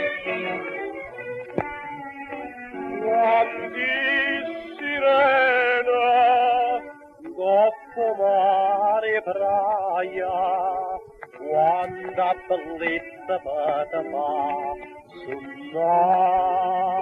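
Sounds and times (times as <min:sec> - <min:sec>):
musical accompaniment: 0:00.0 - 0:17.0.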